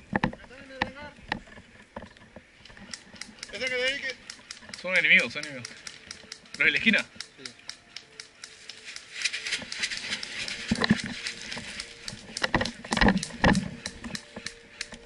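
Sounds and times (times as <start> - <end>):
brush rustling: 0.0 - 15.0
airsoft gunfire clicks: 2.6 - 15.0.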